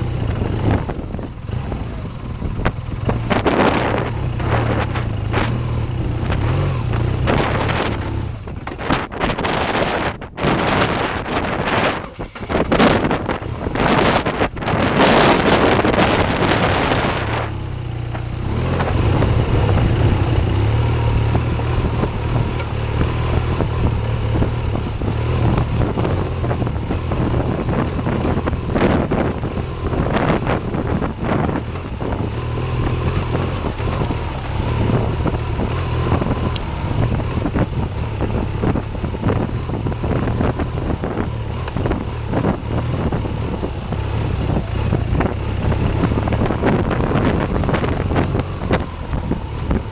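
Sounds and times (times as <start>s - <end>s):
motorcycle engine running: 0.0s - 49.9s
wind buffeting microphone: 0.0s - 49.9s.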